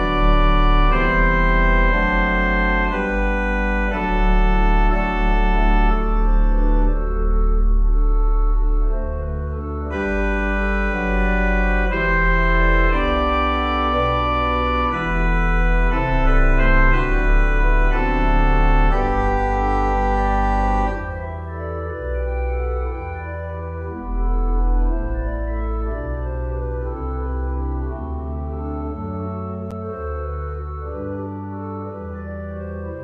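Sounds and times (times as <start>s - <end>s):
organ playing slow chords: 0.0s - 33.0s.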